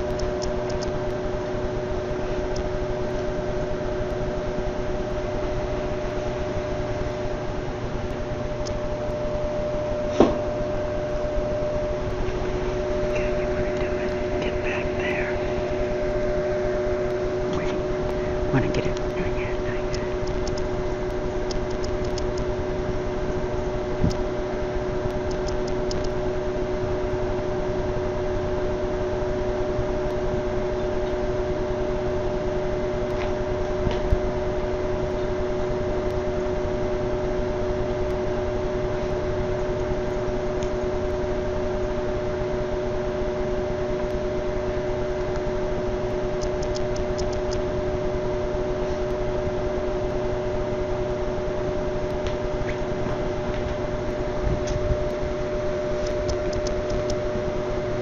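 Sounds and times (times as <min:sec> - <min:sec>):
fan or motor humming: 0:00.0 - 0:58.0.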